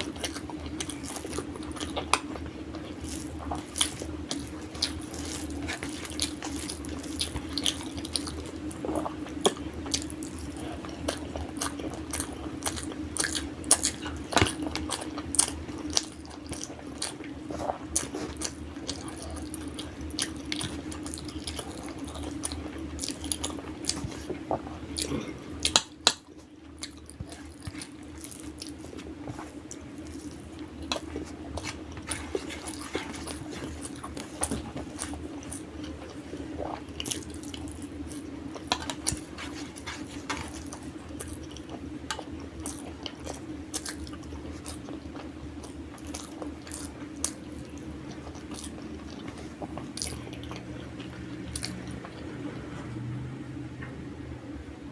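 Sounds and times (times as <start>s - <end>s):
person chewing food: 0.0s - 53.1s
steady low hum: 0.0s - 54.9s.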